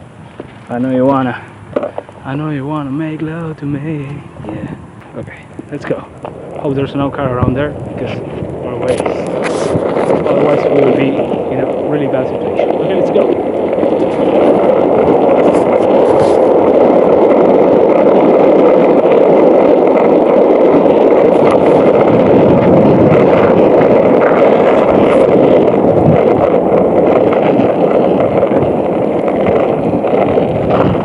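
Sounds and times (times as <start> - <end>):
skateboard wheels rolling on asphalt: 0.0 - 31.0.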